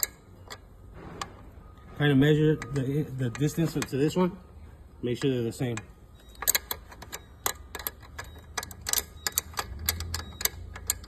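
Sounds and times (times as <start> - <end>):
tools clicking and tapping on metal: 0.0 - 1.4, 2.5 - 4.2, 5.1 - 11.0.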